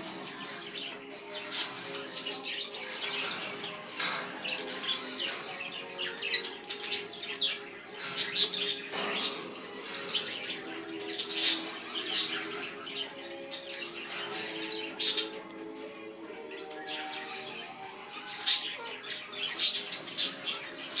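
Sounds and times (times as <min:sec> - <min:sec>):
parrots chirping and squawking: 0:00.0 - 0:21.0
soft background music: 0:00.0 - 0:21.0.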